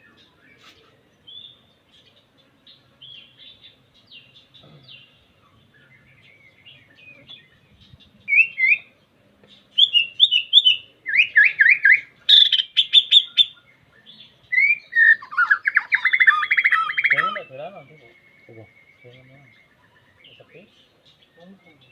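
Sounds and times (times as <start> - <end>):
songbird singing: 0.0 - 21.9.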